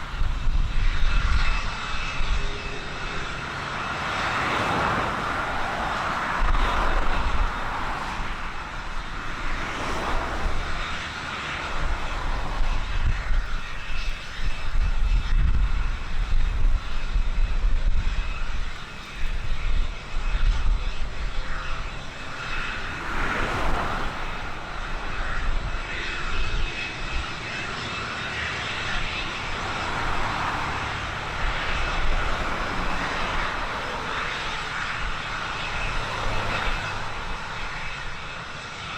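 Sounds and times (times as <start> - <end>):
aircraft engine whining: 0.0 - 38.9
wind buffeting microphone: 0.0 - 38.9.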